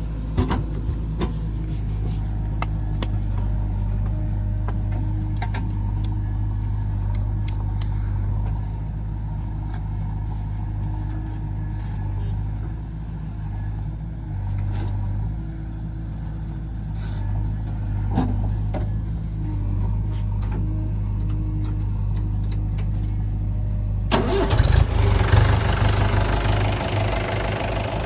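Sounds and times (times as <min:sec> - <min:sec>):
heavy diesel engine running: 0:00.0 - 0:28.0.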